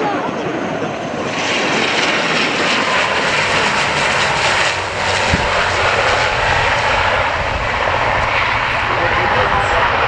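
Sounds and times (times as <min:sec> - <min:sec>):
turboprop engines running: 0:00.0 - 0:10.0.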